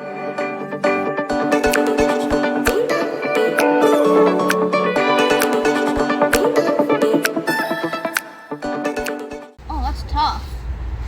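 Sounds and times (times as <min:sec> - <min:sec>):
plucked guitar music with beat: 0:00.0 - 0:09.6.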